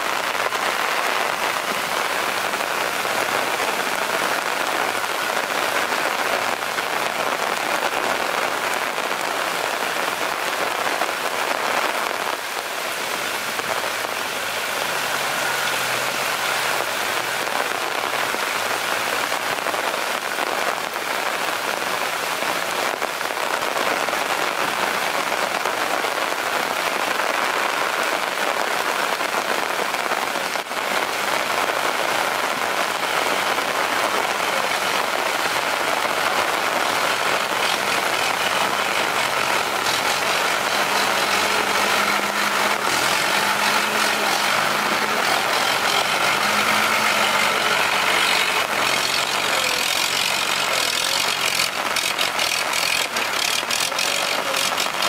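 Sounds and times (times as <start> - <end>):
heavy rain on muddy ground: 0.0 - 55.0.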